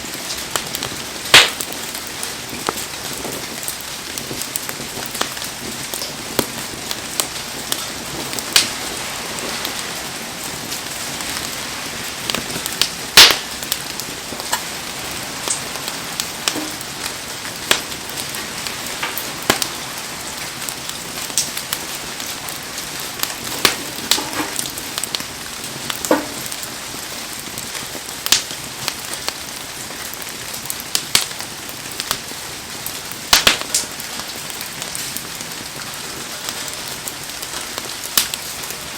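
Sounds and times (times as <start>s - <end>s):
heavy rain falling: 0.0s - 38.9s
wood fire crackling and popping: 0.0s - 38.9s.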